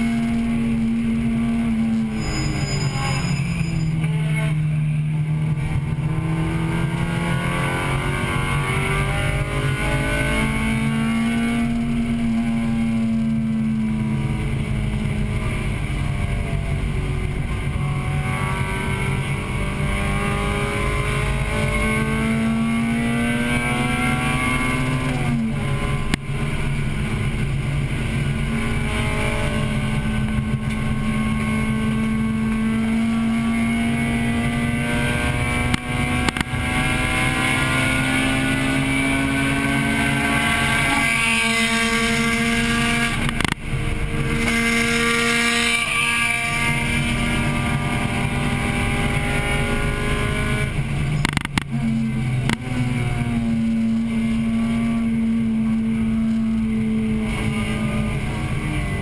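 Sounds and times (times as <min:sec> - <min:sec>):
car engine revving: 0:00.0 - 0:59.0
road and wind noise: 0:00.0 - 0:59.0.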